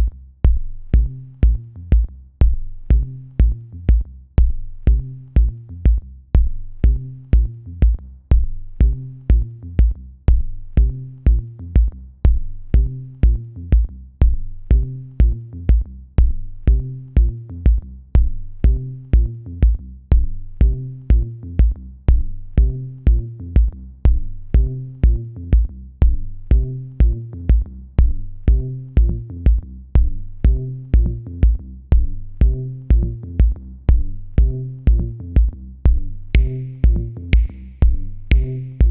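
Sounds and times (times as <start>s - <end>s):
electronic music with drum beat: 0.0s - 38.9s.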